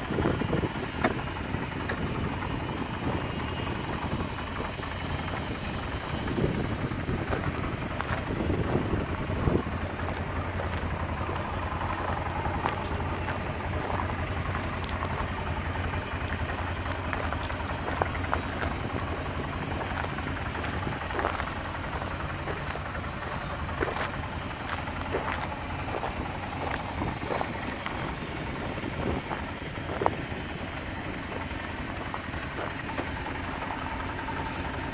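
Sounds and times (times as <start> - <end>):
atv engine running: 0.0 - 34.9
tyres crunching on gravel: 0.0 - 34.9.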